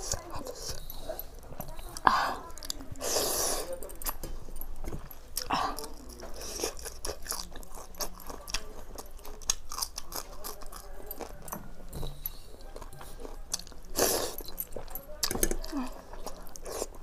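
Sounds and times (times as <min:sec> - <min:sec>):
person chewing with wet clicks: 0:00.0 - 0:17.0.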